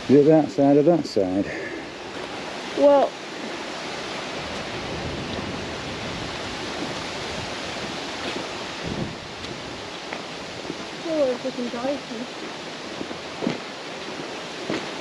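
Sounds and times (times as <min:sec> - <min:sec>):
steady wind rushing: 0:00.0 - 0:15.0.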